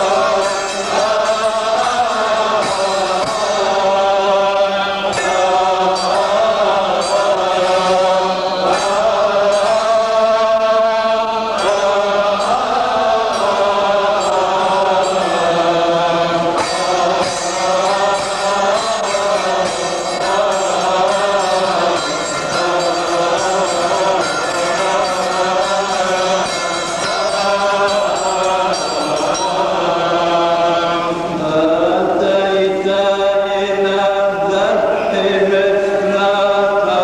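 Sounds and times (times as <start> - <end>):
melismatic liturgical chant: 0.0 - 37.0.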